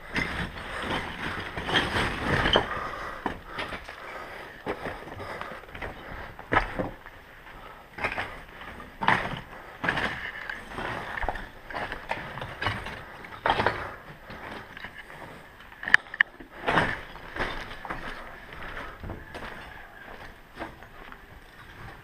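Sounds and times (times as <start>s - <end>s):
gear rustling: 0.0s - 22.0s
slow footsteps: 0.0s - 22.0s.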